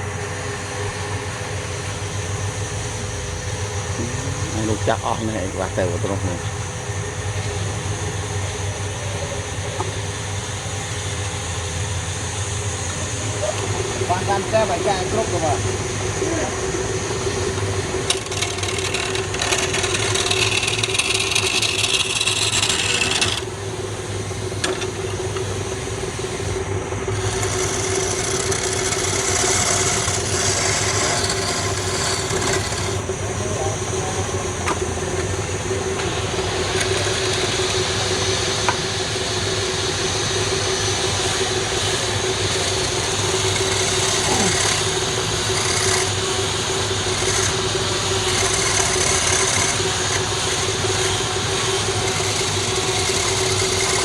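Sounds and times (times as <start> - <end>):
wood lathe motor: 0.0 - 54.0
tool scraping spinning wood: 3.6 - 10.2, 12.1 - 54.0.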